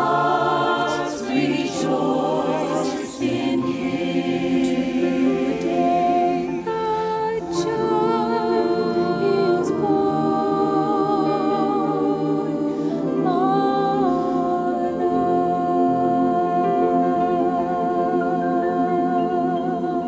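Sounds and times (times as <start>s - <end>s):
voices singing in harmony: 0.0s - 20.0s.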